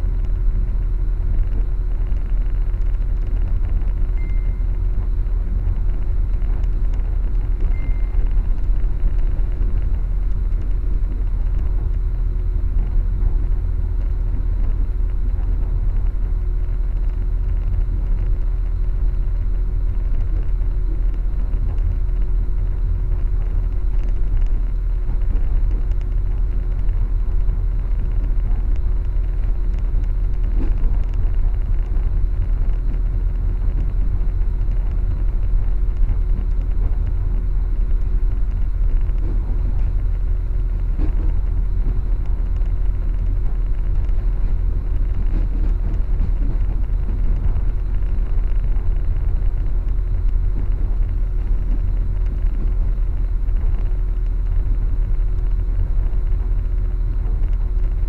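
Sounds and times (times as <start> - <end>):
faint steady hum: 0.0 - 58.0
train low rumble: 0.0 - 58.0.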